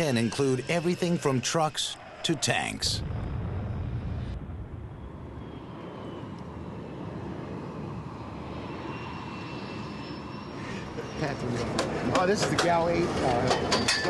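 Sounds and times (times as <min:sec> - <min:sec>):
jet aircraft flying low: 0:00.0 - 0:13.9
jet engine whine: 0:00.0 - 0:14.0.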